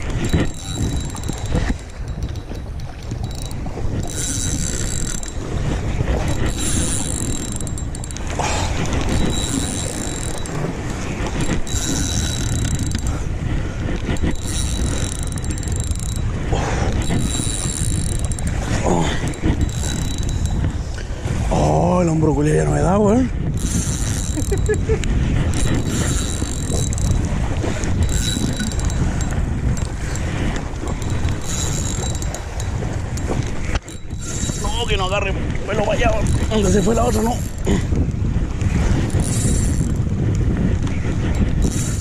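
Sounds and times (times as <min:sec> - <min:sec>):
fishing reel whirring: 0:00.0 - 0:21.2, 0:22.7 - 0:42.0
wind buffeting microphone: 0:00.0 - 0:42.0.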